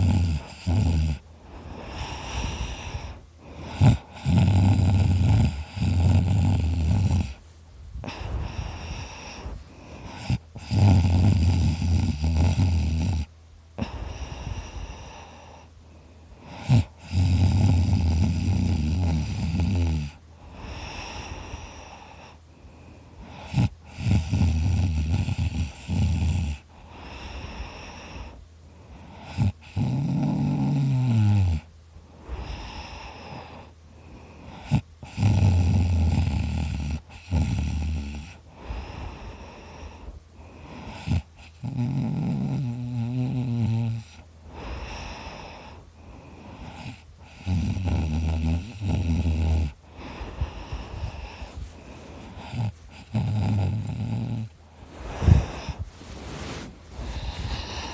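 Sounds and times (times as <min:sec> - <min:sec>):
loud snoring: 0:00.0 - 0:07.4, 0:08.0 - 0:15.4, 0:16.4 - 0:22.0, 0:23.2 - 0:28.3, 0:29.1 - 0:31.7, 0:34.3 - 0:55.9, 0:56.5 - 0:57.9
quiet breathing: 0:00.0 - 0:57.9.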